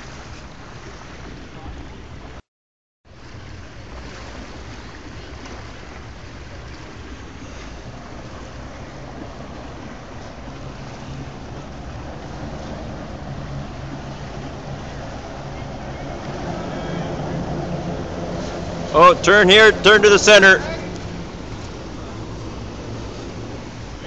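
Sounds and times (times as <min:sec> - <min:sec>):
water noise: 0:00.0 - 0:24.0
wind: 0:00.0 - 0:24.0
motorboat engine running: 0:03.1 - 0:24.0.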